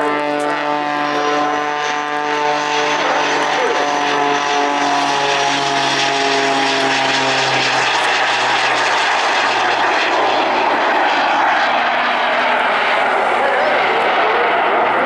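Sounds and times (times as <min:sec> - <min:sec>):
biplane engine flying past: 0:00.0 - 0:15.0.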